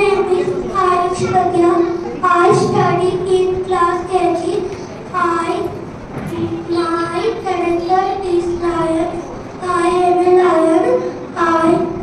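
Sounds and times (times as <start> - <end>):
child singing into a microphone: 0.0 - 12.0.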